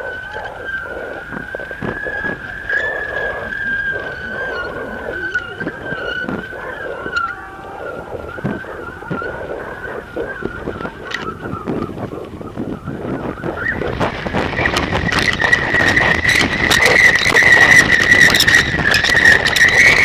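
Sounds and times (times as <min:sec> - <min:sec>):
steady high whine: 0:00.0 - 0:20.0
wind buffeting camera: 0:00.0 - 0:20.0.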